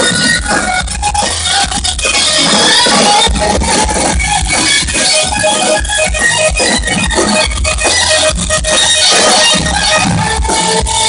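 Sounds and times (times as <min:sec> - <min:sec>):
distorted electric guitar: 0:00.0 - 0:11.0
drums: 0:00.0 - 0:11.0
live rock band playing: 0:00.0 - 0:11.0.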